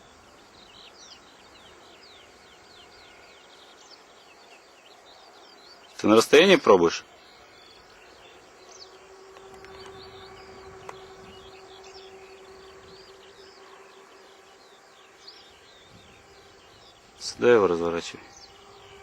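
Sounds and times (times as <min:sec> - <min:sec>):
faint steady hum: 0:00.0 - 0:19.0
small birds chirping: 0:00.0 - 0:19.0.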